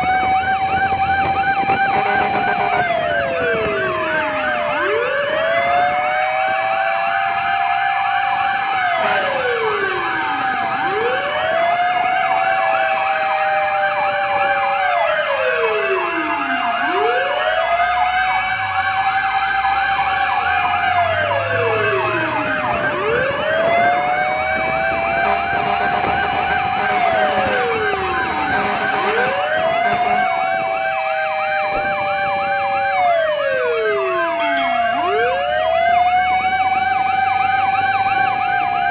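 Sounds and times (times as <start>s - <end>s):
fast warbling siren: 0.0s - 38.9s
fire truck sirens wailing: 0.0s - 38.9s.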